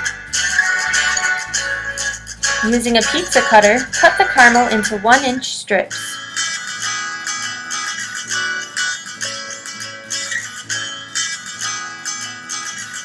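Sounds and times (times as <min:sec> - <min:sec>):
plucked guitar: 0:00.0 - 0:05.4, 0:06.0 - 0:13.0.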